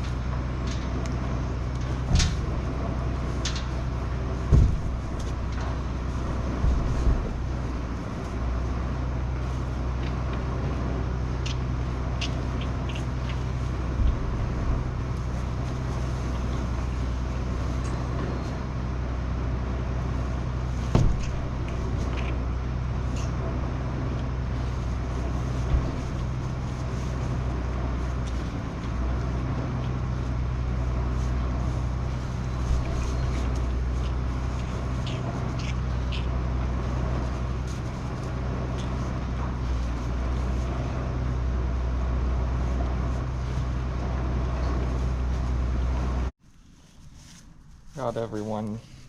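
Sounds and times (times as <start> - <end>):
low motor drone: 0.0 - 46.3.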